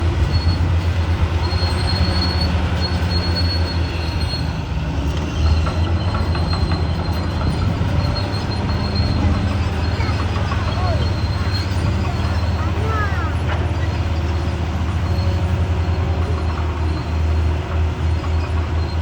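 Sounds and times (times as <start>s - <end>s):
bulldozer diesel drone: 0.0s - 19.0s.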